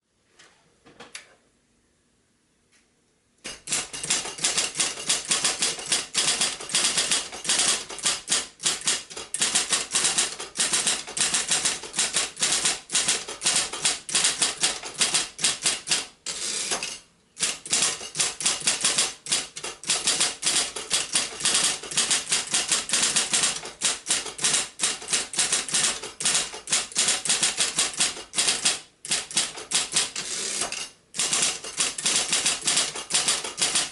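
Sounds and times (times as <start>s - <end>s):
electric typewriter typing: 3.5s - 33.9s.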